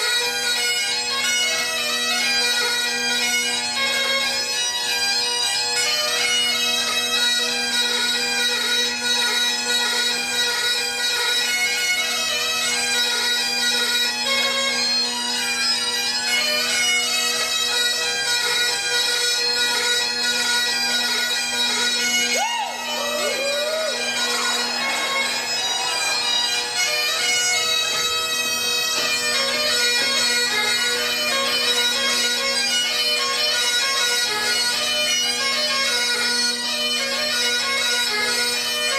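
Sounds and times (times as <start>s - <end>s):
bagpipes playing over drone: 0.0s - 38.9s.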